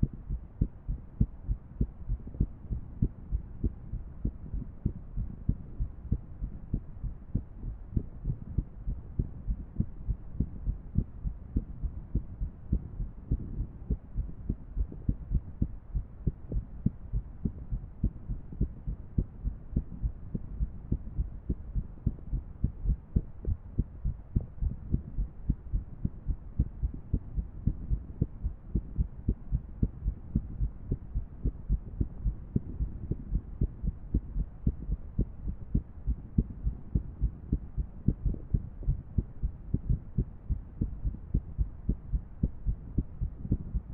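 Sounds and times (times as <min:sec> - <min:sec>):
faint steady hum: 0:00.0 - 0:43.9
heartbeat thuds: 0:00.0 - 0:43.9.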